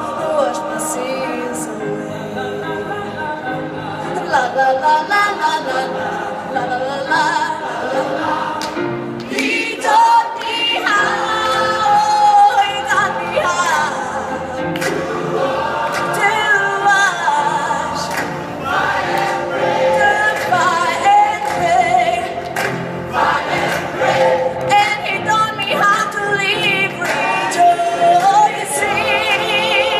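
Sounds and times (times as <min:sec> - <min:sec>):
choir singing: 0:00.0 - 0:29.9.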